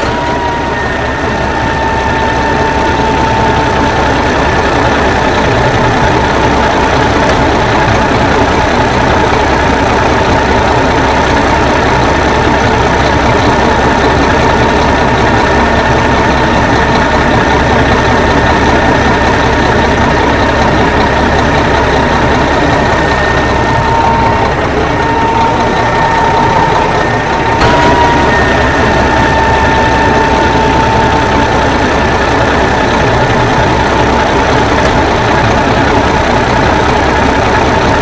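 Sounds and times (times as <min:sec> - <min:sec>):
thin high whine: 0:00.0 - 0:37.8
truck engine running: 0:00.0 - 0:38.0.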